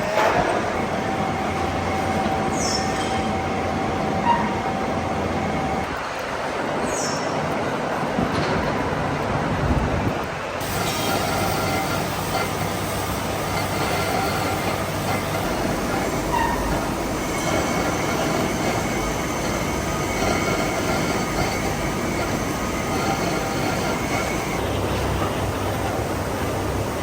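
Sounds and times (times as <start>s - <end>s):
metalworking machinery running: 0.0s - 27.0s.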